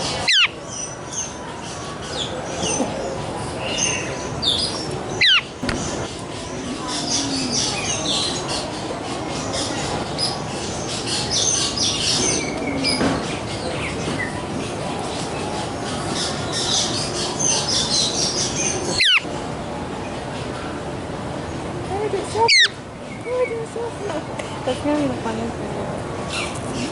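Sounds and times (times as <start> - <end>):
birds chirping and squawking: 0.0 - 19.3, 22.2 - 23.9, 26.2 - 26.9.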